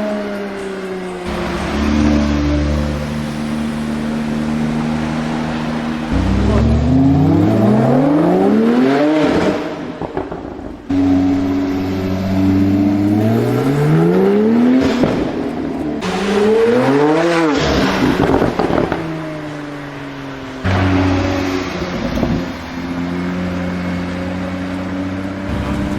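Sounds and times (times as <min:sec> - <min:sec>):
sports car engine revving: 0:00.0 - 0:25.9
exhaust pops and crackles: 0:01.2 - 0:25.9.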